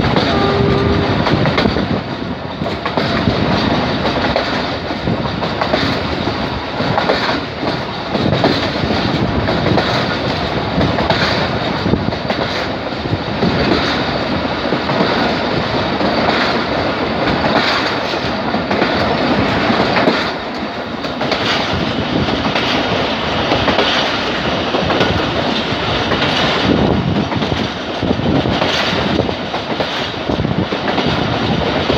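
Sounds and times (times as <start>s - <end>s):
train wheel rush: 0.0s - 31.9s
wheels clattering over rail joints: 1.4s - 31.9s.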